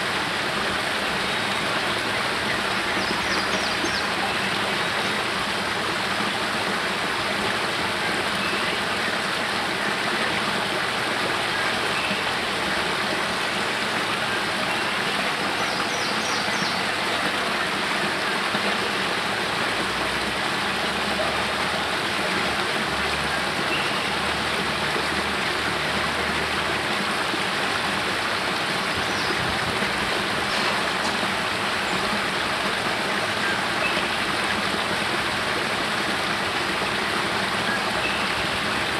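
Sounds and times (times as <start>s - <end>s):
water falling into a pool: 0.0s - 38.9s.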